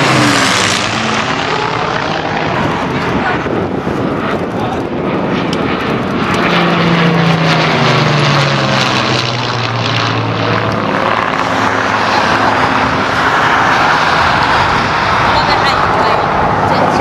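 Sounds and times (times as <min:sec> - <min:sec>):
propeller plane flying past: 0:00.0 - 0:17.0.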